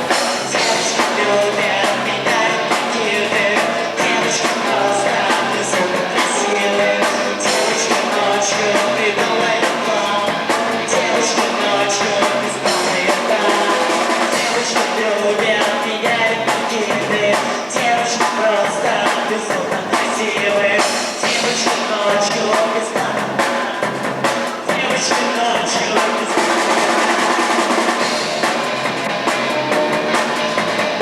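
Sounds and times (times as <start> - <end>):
person singing: 0.0 - 28.5
drum kit beat: 0.0 - 31.0
electric guitar: 0.0 - 31.0.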